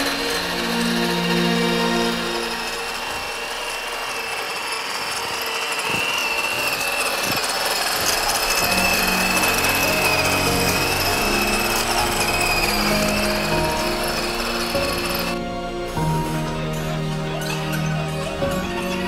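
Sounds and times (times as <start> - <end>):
gritty mechanical rattle: 0.0 - 15.4
electric motor whining: 0.0 - 19.0.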